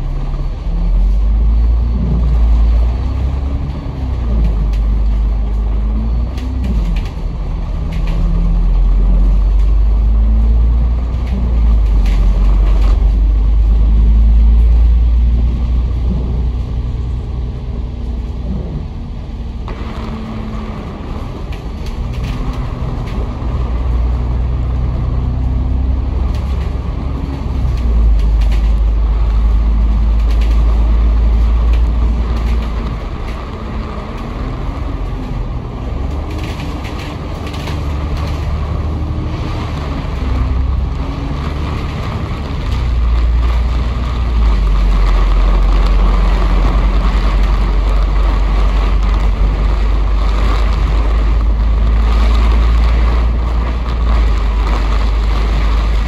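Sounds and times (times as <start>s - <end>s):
diesel bus engine rumbling: 0.0s - 56.0s.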